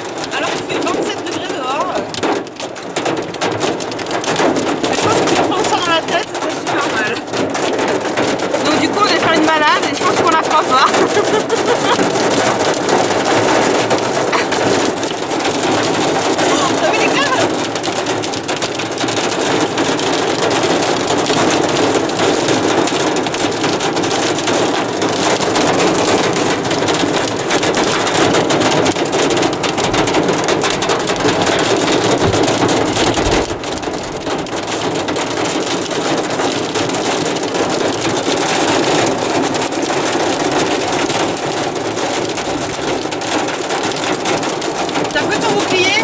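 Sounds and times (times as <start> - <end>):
rain and hail drumming on car roof: 0.0 - 46.0.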